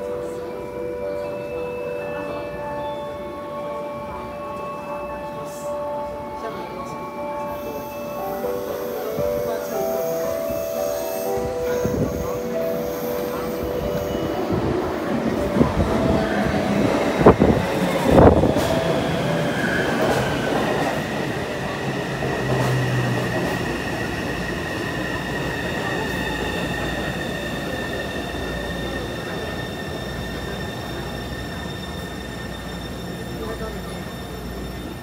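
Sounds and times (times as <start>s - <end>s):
train rumble: 2.4s - 35.0s.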